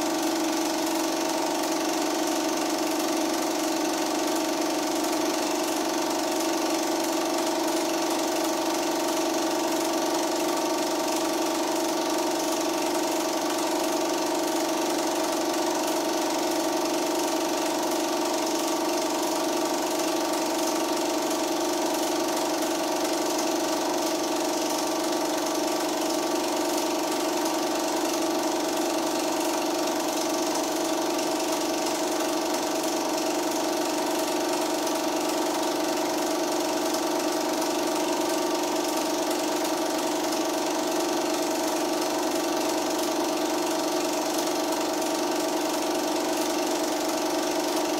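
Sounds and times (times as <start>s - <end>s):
film projector whirring: 0.0s - 47.9s.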